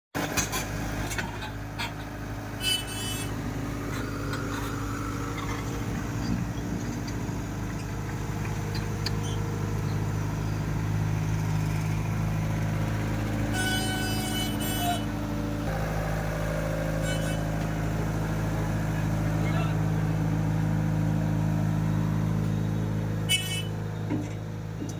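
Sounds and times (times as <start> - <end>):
heavy vehicle engine running: 0.2 - 24.9.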